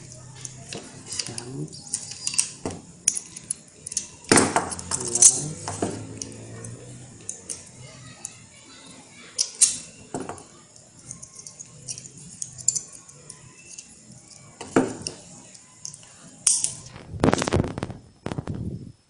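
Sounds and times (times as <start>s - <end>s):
metal clicks and clinks: 0.0s - 8.4s, 9.4s - 16.9s.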